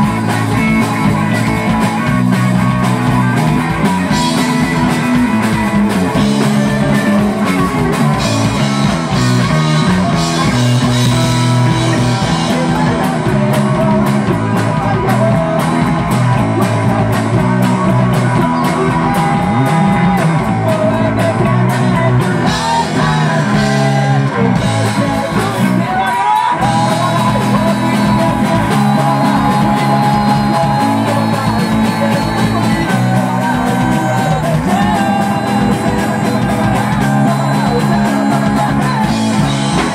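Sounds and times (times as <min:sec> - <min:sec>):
drum kit: 0:00.0 - 0:39.9
electric bass: 0:00.0 - 0:39.9
electric guitar: 0:00.0 - 0:39.9
person singing: 0:00.0 - 0:39.9.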